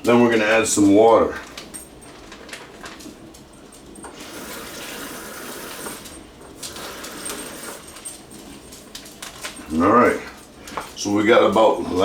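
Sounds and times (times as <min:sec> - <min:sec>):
tap water running into plastic bag: 0:00.0 - 0:12.0.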